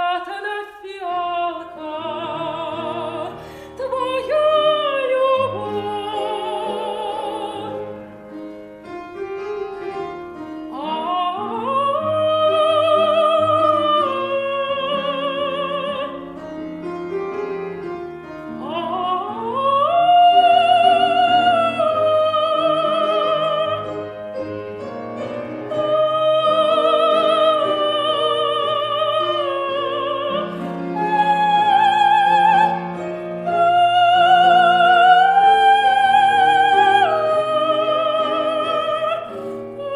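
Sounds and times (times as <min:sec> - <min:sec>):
soprano singing operatically: 0:00.0 - 0:08.2, 0:10.3 - 0:16.4, 0:18.5 - 0:39.9
musical accompaniment: 0:00.0 - 0:39.9.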